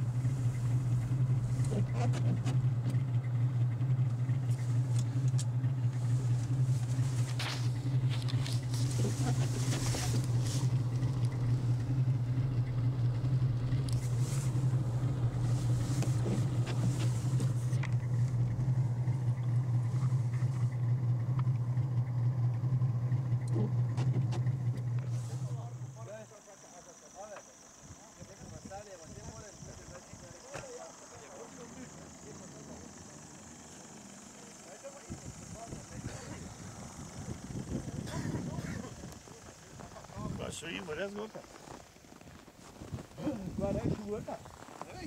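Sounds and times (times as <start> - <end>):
car engine droning: 0.0 - 45.0.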